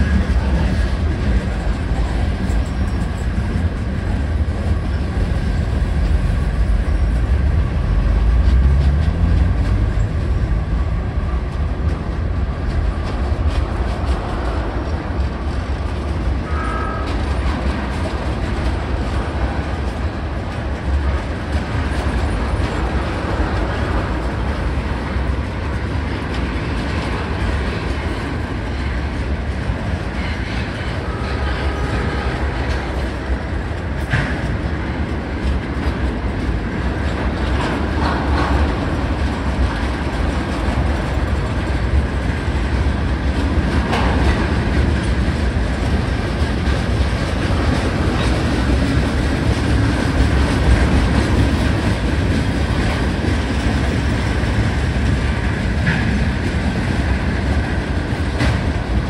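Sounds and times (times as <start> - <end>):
clickety-clack of wheels: 0.0 - 59.0
train wheels rumbling on rails: 0.0 - 59.0.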